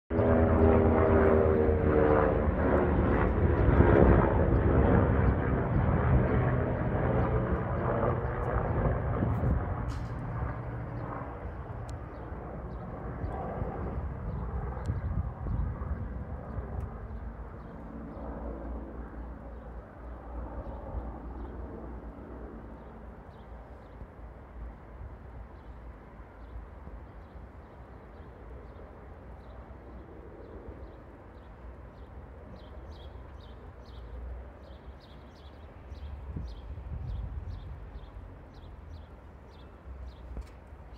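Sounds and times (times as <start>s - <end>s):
helicopter flying over: 0.1s - 40.9s.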